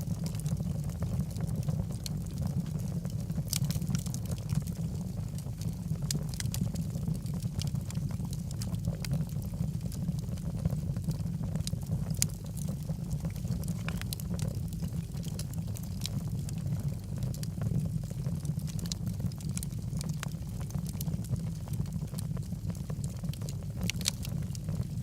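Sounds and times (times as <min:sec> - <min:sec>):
fire rumbling: 0:00.0 - 0:25.0
wood crackling and popping: 0:00.0 - 0:25.0.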